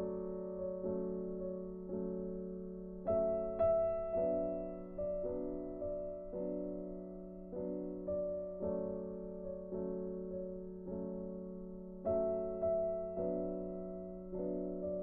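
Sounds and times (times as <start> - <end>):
gentle keyboard melody: 0.0 - 15.0.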